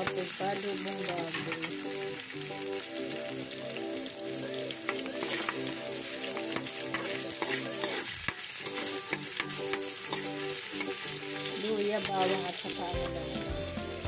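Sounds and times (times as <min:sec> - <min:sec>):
onion sizzling in hot oil: 0:00.0 - 0:14.0.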